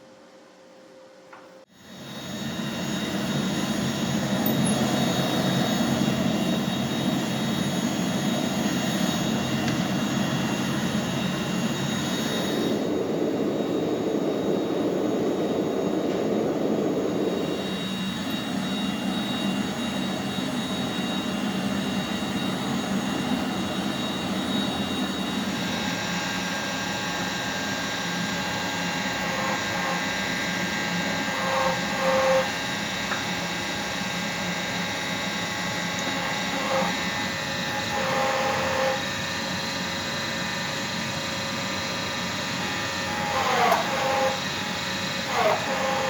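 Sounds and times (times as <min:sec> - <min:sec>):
machine roar: 0:01.8 - 0:40.6, 0:41.7 - 0:46.0.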